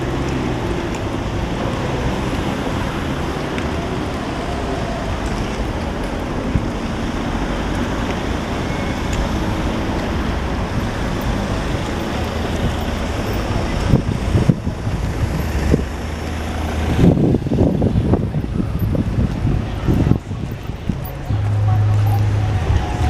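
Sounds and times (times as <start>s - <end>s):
road traffic going by: 0.0s - 23.0s
wind rumble on microphone: 0.0s - 23.0s.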